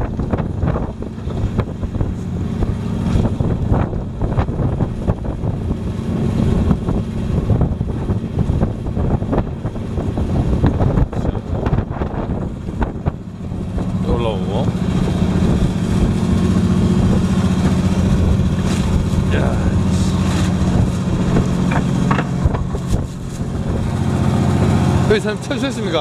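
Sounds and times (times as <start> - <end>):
boat engine running: 0.0 - 26.0
waves washing against hull: 0.0 - 26.0
wind buffeting microphone: 0.0 - 26.0.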